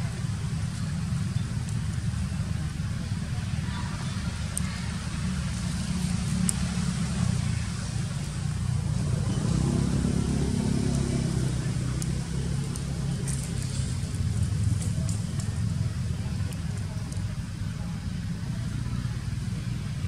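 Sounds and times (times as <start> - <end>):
humming tone of passing vehicle: 0.0 - 20.0
vehicle engine rumbling: 0.0 - 20.0.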